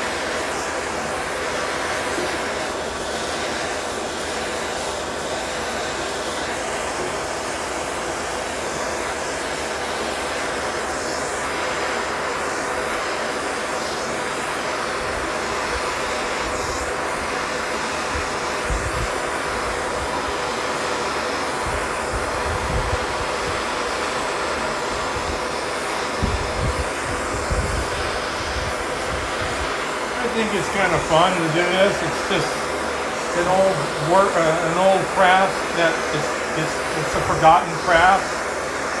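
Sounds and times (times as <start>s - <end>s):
gas torch hissing: 0.0s - 39.0s.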